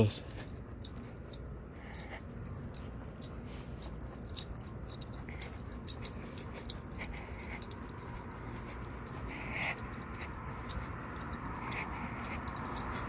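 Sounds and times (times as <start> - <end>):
chain collar clinking: 0.0 - 13.0
low background rumble: 0.0 - 13.0
dog sniffing: 0.2 - 13.0.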